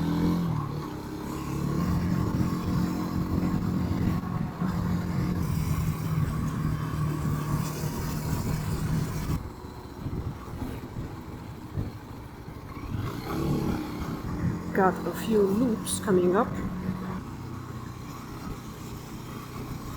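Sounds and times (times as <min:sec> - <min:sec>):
motorcycle engine running: 0:00.0 - 0:19.9
road and wind noise: 0:00.0 - 0:19.9.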